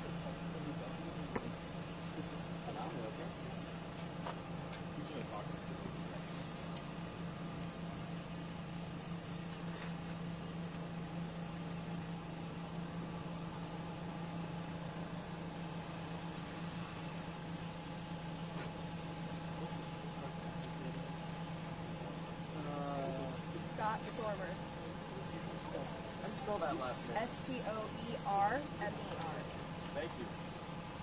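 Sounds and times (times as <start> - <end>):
constant background noise: 0.0 - 31.0
steady low hum: 0.0 - 31.0.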